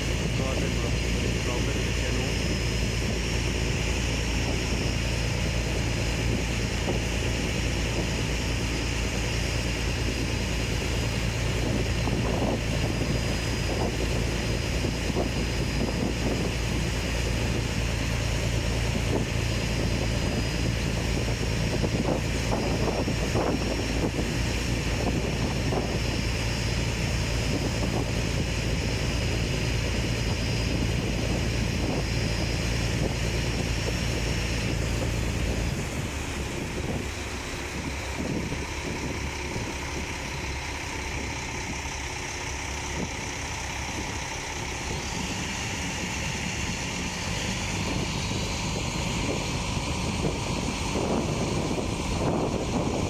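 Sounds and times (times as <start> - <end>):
motorboat engine running: 0.0 - 53.0
water rushing along hull: 0.0 - 53.0.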